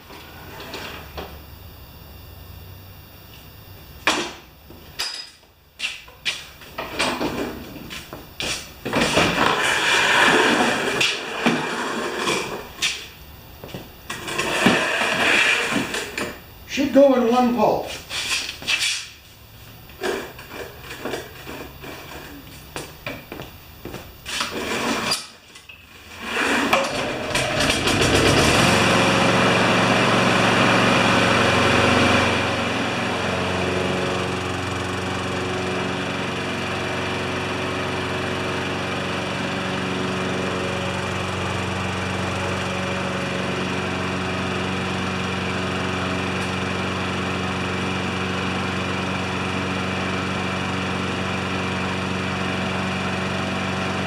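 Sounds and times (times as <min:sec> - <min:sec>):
mower engine pull-started and running: 0:00.0 - 0:02.9, 0:04.0 - 0:54.0.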